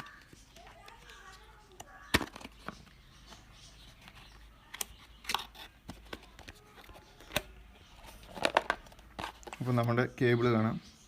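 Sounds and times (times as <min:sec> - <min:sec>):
card and paper rustling: 0:00.0 - 0:10.0.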